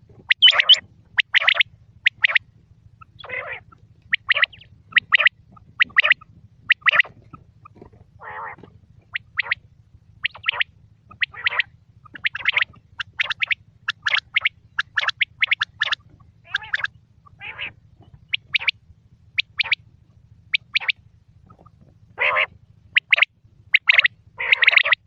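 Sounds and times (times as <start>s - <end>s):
quail calling: 0.0s - 25.0s
steady low hum: 0.0s - 25.0s.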